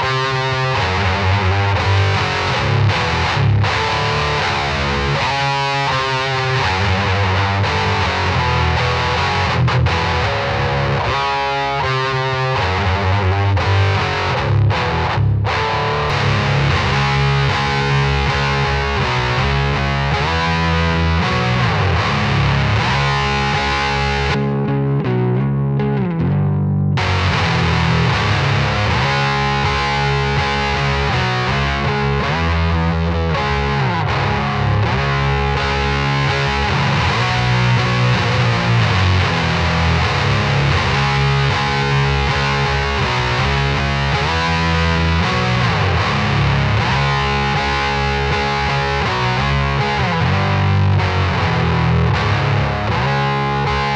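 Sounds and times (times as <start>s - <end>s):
distorted electric guitar riffing: 0.0s - 53.9s.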